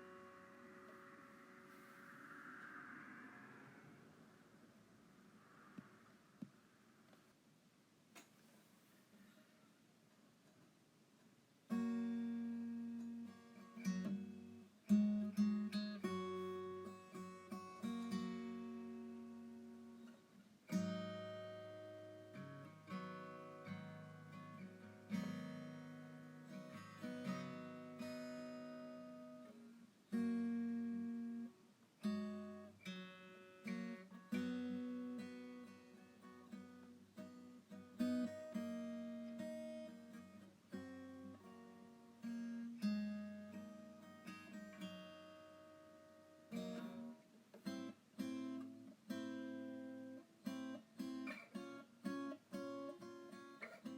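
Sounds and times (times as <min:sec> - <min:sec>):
acoustic guitar piece: 0:00.0 - 0:53.9.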